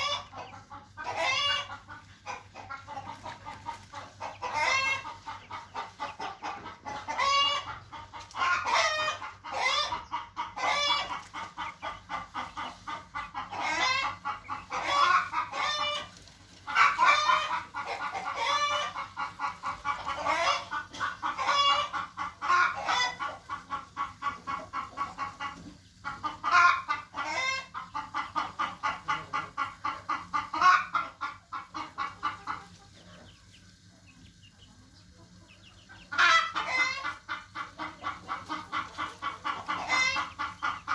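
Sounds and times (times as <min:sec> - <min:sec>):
chickens wavering calls: 0:00.0 - 0:40.9
young chickens clucking: 0:00.0 - 0:40.9.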